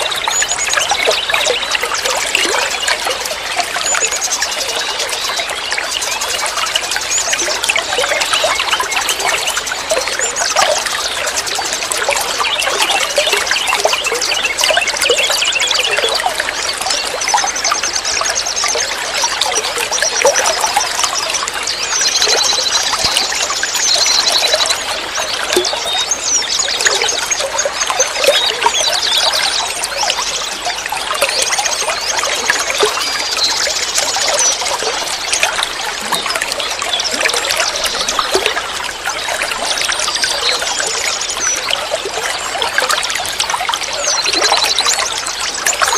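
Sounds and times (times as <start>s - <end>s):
water trickling and splashing: 0.0s - 45.9s.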